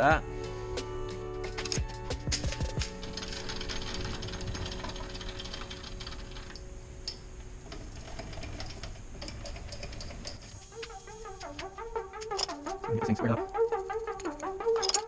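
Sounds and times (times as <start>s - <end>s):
rapid mechanical ticking: 1.4s - 15.0s.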